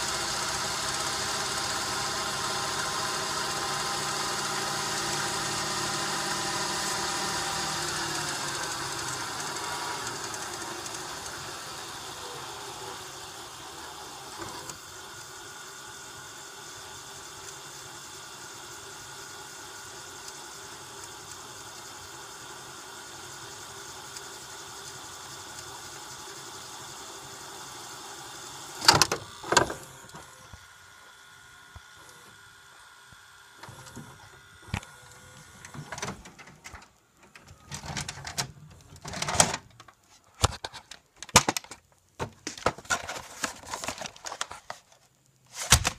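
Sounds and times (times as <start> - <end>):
tape deck motor whirring: 0.0 - 45.9.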